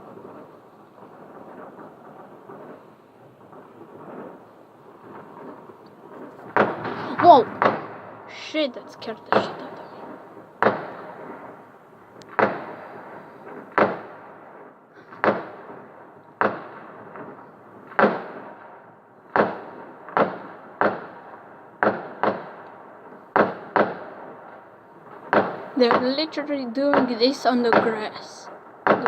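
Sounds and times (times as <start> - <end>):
fireworks exploding with loud bangs: 0.0 - 29.0.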